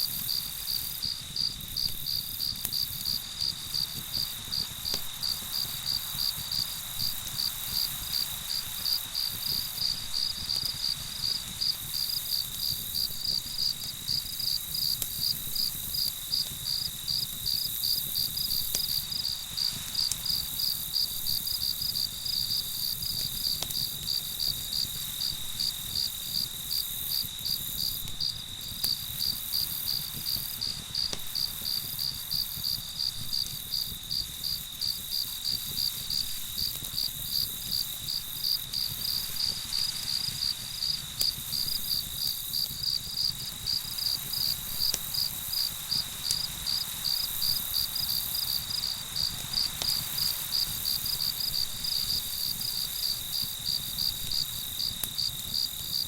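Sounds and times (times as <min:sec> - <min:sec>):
crickets chirping: 0:00.0 - 0:56.0
high insect trill: 0:00.0 - 0:56.0.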